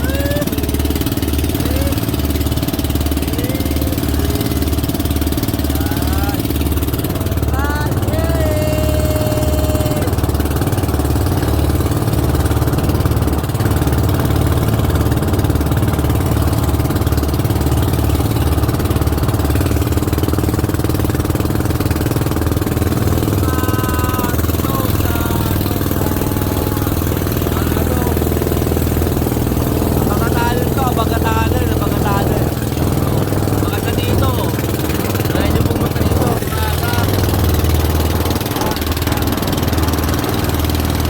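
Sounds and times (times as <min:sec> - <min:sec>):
boat engine rumbling: 0:00.0 - 0:41.0.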